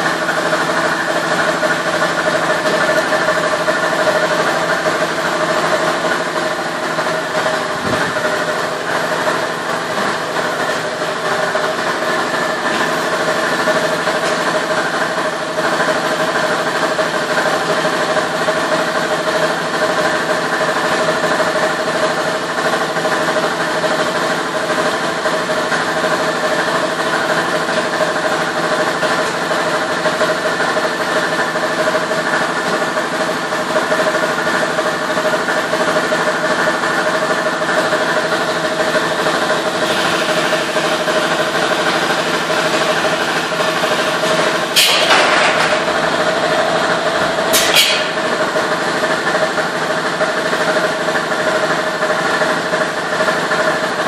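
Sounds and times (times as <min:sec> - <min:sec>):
industrial machinery hum: 0:00.0 - 0:54.0.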